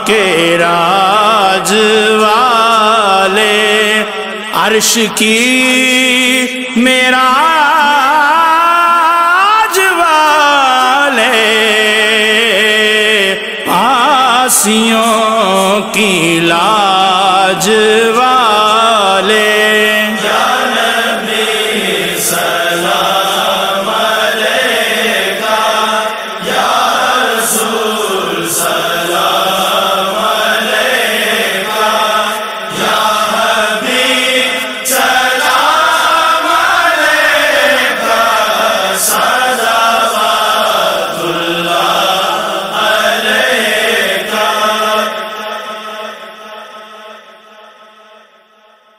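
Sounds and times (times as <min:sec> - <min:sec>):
men chanting devotional melody: 0:00.0 - 0:48.9.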